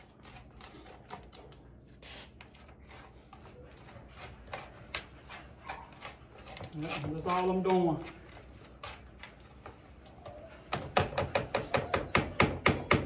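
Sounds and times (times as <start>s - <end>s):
spoon scraping plastic pans: 0.0s - 12.4s.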